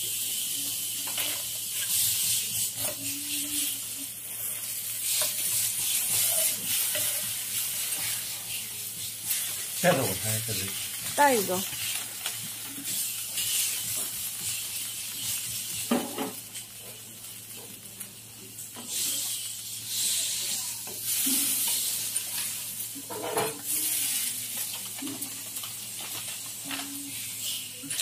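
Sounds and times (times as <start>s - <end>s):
pancakes sizzling on a griddle: 0.0s - 28.0s.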